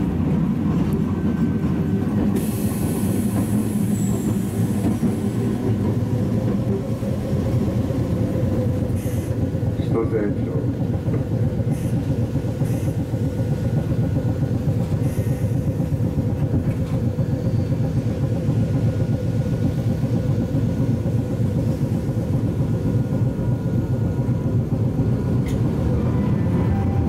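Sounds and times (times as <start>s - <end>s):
tram wheels rumbling: 0.0s - 27.0s.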